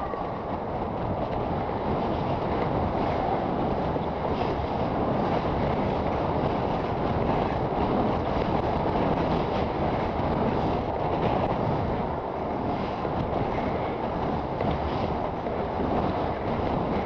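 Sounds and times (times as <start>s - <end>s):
wind noise on microphone: 0.0s - 17.0s
skis scraping over snow: 1.8s - 17.0s.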